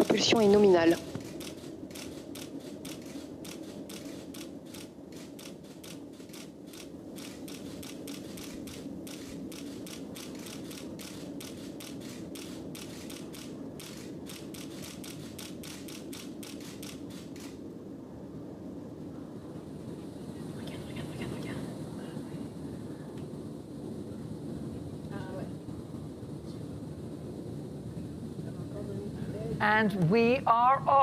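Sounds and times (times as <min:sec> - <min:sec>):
rocket crackle: 0:00.0 - 0:31.0
rocket low rumble: 0:00.0 - 0:31.0.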